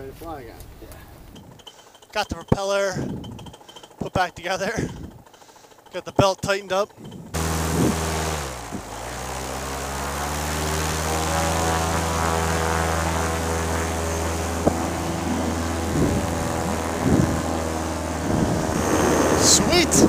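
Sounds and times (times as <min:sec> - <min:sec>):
paramotor engine running: 0:01.3 - 0:20.0.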